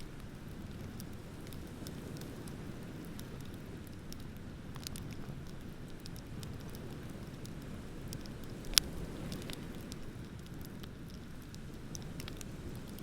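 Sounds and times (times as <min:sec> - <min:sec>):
bonfire crackling: 0:00.0 - 0:13.0
low fire rumble: 0:00.0 - 0:13.0.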